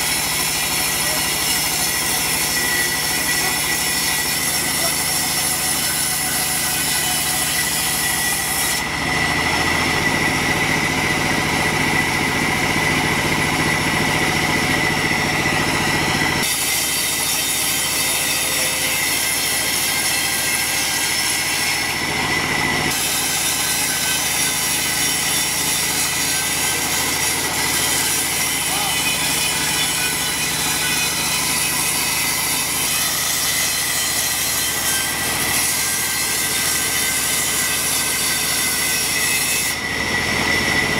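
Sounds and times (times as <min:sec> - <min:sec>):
band saw cutting through log: 0:00.0 - 0:40.9
saw blade high whine: 0:00.0 - 0:40.9.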